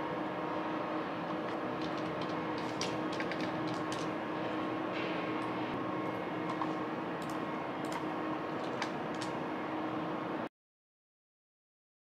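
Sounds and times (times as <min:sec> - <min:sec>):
city traffic drone: 0:00.0 - 0:10.5
constant low hum: 0:00.0 - 0:10.5.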